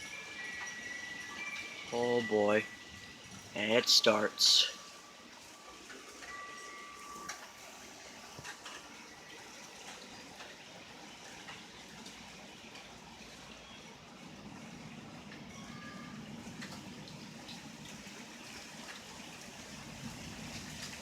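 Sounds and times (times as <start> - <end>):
rain falling steadily: 0.0 - 21.0
raindrops tapping a surface: 0.0 - 21.0.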